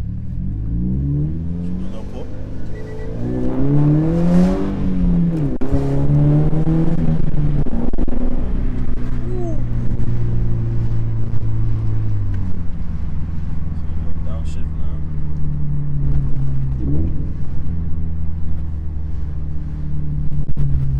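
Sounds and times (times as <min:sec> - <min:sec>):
car engine revving through upshift: 0:00.0 - 0:20.9.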